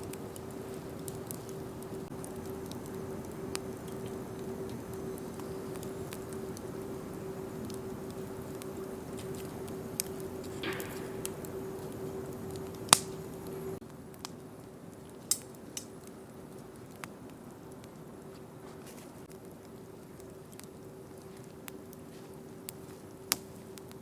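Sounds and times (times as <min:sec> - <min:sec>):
faint steady hum: 0:00.0 - 0:24.0
wood bonfire crackling: 0:00.0 - 0:24.0.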